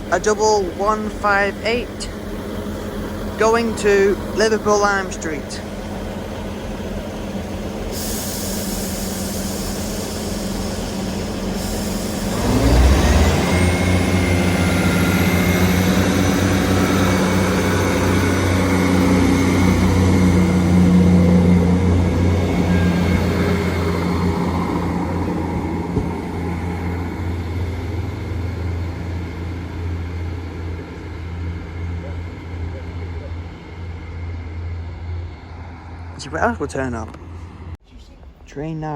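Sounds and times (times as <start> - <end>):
diesel train engines revving: 0.0 - 38.9.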